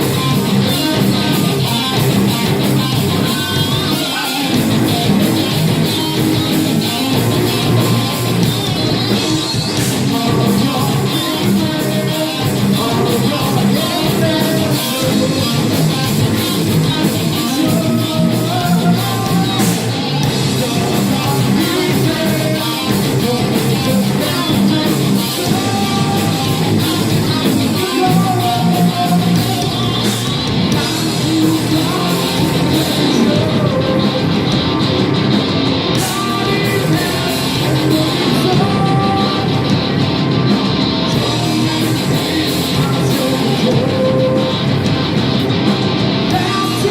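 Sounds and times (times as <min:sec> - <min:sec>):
person singing: 0:00.0 - 0:35.1, 0:35.9 - 0:45.2, 0:46.2 - 0:46.9
drums: 0:00.0 - 0:46.9
electric guitars: 0:00.0 - 0:46.9.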